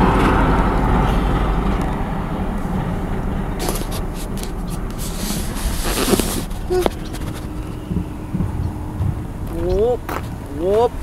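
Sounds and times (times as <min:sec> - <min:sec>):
truck passing on highway: 0:00.0 - 0:11.0.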